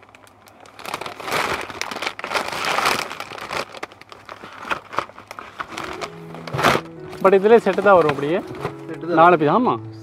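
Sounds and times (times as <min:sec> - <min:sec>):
fabric rustling and crinkling: 0:00.0 - 0:09.3.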